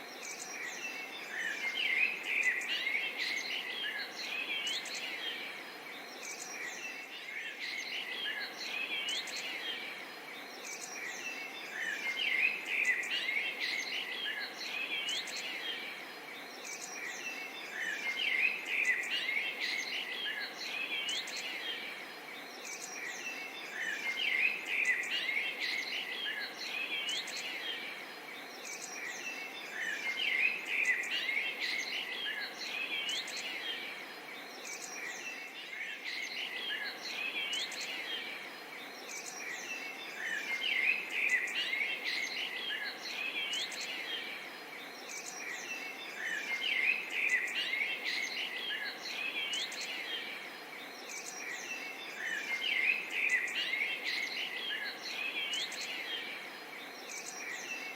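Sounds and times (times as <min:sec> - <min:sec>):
birds chirping and calling: 0:00.0 - 0:57.9.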